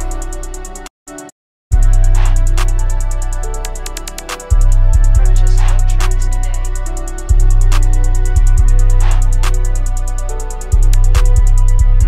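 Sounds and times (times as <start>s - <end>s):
fast ticking hi-hats: 0.0s - 0.8s, 1.7s - 12.0s
electronic beat with heavy bass: 0.0s - 12.0s.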